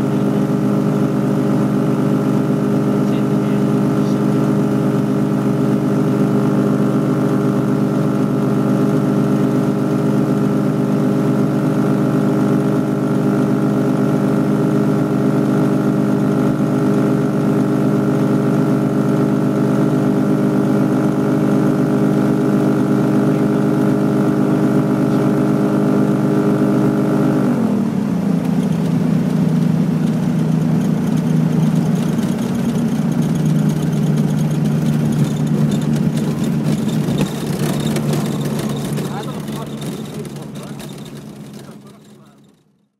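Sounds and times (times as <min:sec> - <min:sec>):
light aircraft engine and propeller: 0:00.0 - 0:42.9.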